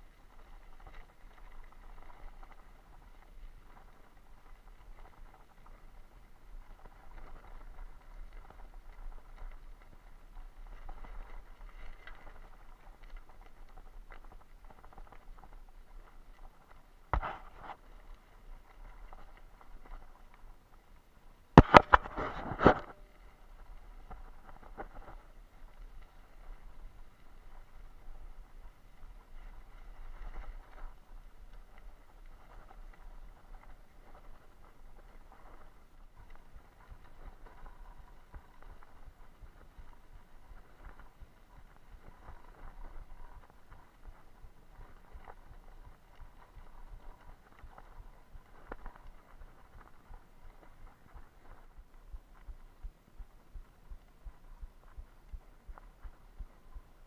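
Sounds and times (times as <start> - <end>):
bicycle tyres on gravel: 0.0 - 57.0
wind rumble on microphone: 0.0 - 57.0.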